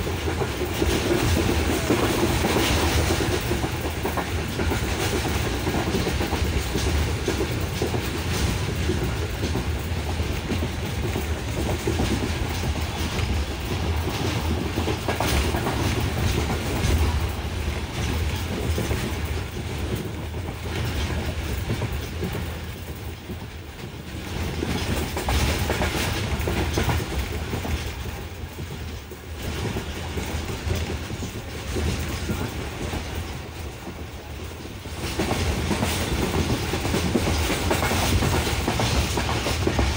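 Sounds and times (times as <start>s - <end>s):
train running noise: 0.0s - 39.9s
wheels clacking over rail joints: 0.0s - 39.9s.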